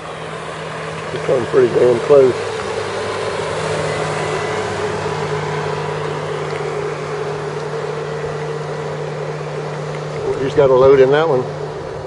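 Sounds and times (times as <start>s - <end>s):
hull rushing through water: 0.0s - 12.0s
motorboat engine drone: 0.0s - 12.0s.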